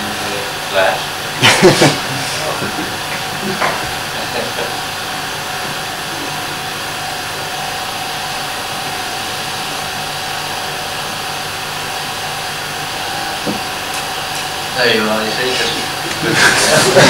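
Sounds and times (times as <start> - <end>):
faint constant hum: 0.0 - 17.0
film projector whirring: 0.0 - 17.0.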